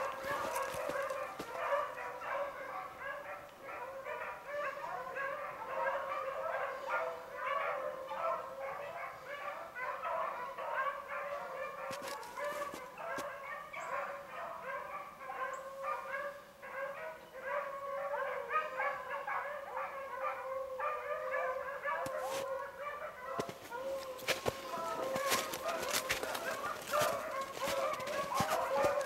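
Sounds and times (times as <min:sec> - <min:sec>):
hounds baying: 0:00.0 - 0:29.0.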